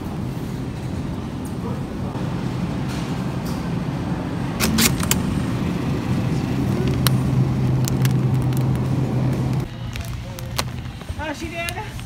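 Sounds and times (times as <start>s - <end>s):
refrigerated case humming: 0.0s - 12.0s.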